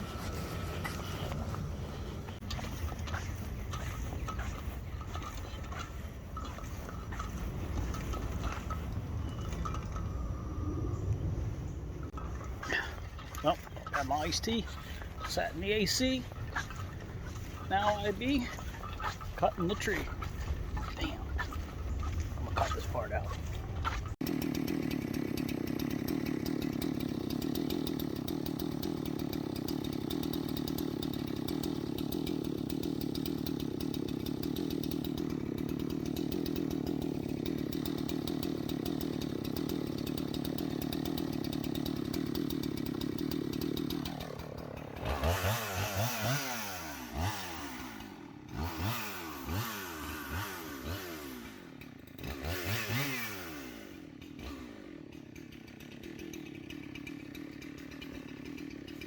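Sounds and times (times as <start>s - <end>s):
chainsaw cutting through trunk: 0.0s - 11.0s, 12.0s - 59.0s
chainsaw revving: 0.0s - 59.0s.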